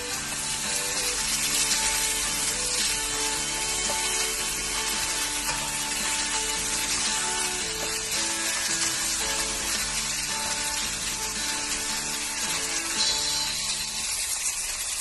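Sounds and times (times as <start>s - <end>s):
background music: 0.0s - 14.8s
food sizzling in hot oil: 0.0s - 15.0s.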